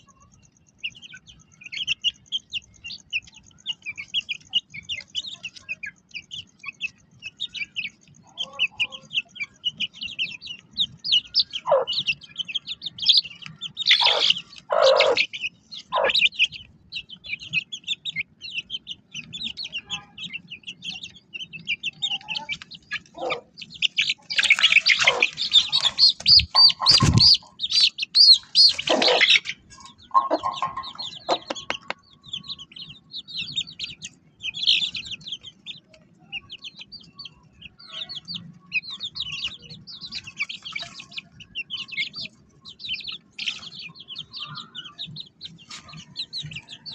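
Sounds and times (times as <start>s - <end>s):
loud bird calls: 0.0s - 46.9s
small birds chirping: 0.0s - 46.9s.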